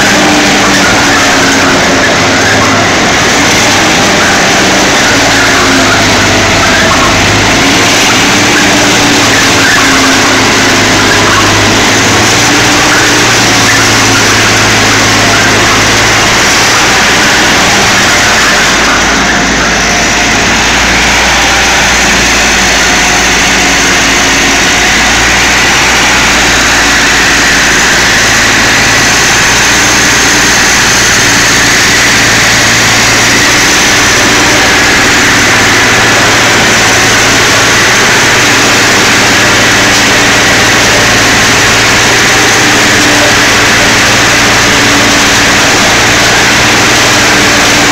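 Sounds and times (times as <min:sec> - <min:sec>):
bale shredder rotor din: 0:00.0 - 0:47.9
tractor engine hum: 0:00.0 - 0:47.9.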